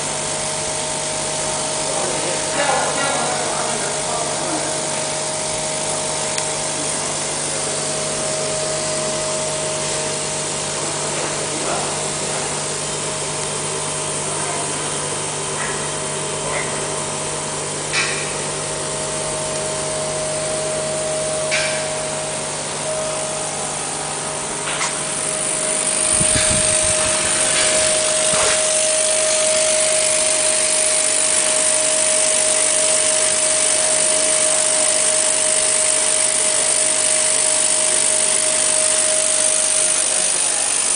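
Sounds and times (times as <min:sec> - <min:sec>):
laser cutter humming with whine: 0:00.0 - 0:40.9.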